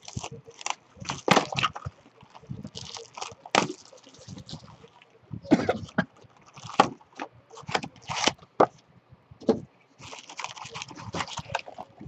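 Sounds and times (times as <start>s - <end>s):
wrapped packs crinkling: 0.0s - 5.1s, 5.8s - 8.5s, 10.0s - 12.0s.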